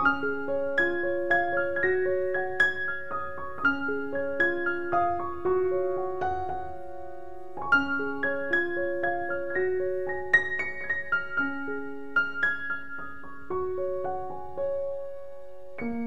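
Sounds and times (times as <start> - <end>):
slow gentle piano melody: 0.0 - 16.0.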